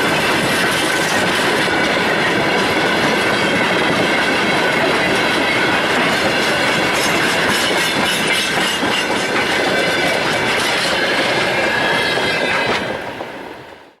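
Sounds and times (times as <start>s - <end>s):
train wheels clacking on rails: 0.0s - 14.0s.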